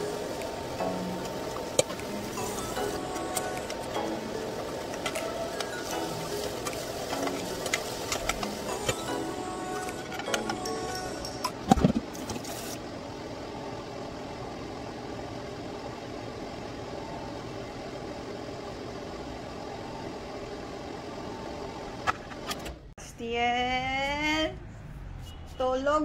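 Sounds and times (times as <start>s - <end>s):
steady hum: 0.0s - 23.4s.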